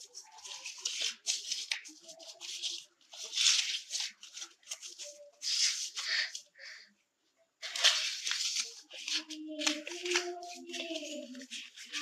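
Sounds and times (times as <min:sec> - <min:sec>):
paper rustling and crinkling: 0:00.0 - 0:06.7, 0:07.6 - 0:12.0.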